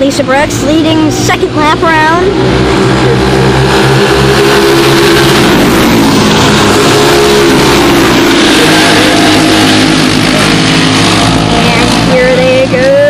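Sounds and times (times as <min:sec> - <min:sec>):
racing kart engines passing: 0:00.0 - 0:13.0.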